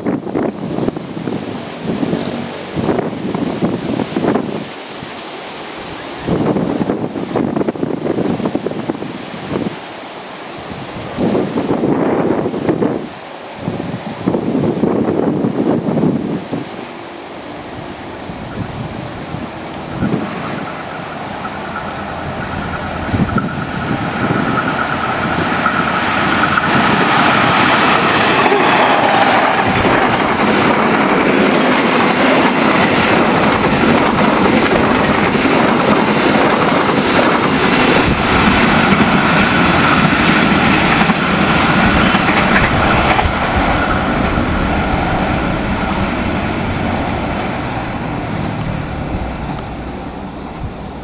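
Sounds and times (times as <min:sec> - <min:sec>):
diesel locomotive passing: 0:00.0 - 0:51.0.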